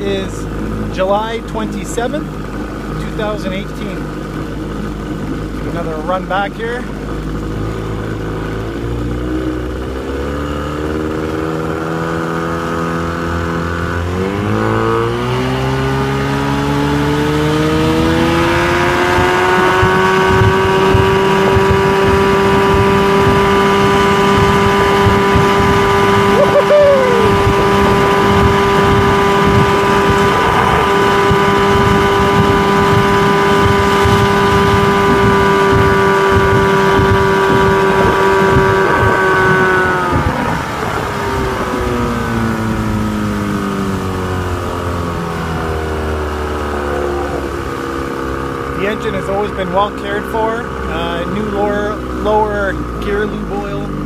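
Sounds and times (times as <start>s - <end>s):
outboard motor revving: 0.0s - 54.0s.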